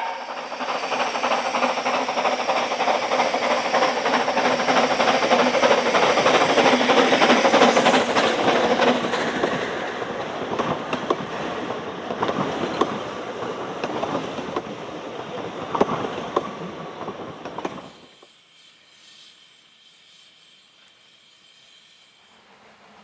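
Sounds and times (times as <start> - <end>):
train wheels rumbling and clicking: 0.0 - 23.0.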